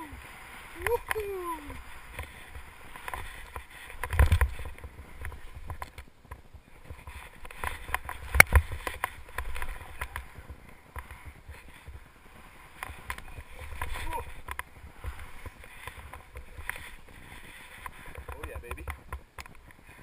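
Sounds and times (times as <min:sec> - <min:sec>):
skis swishing through powder snow: 0:00.0 - 0:05.7, 0:06.4 - 0:18.7.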